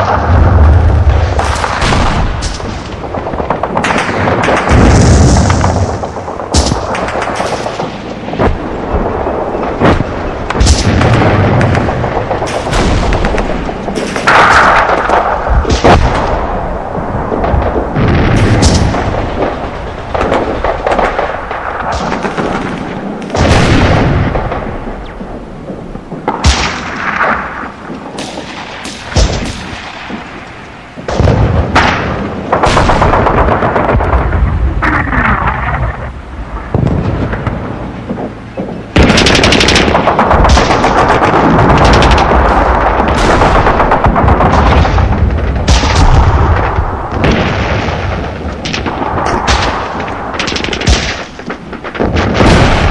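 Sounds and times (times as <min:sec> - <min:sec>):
continuous low rumble: 0:00.0 - 0:52.9
gunshots: 0:00.0 - 0:52.9
heavy booming explosions: 0:00.0 - 0:52.9.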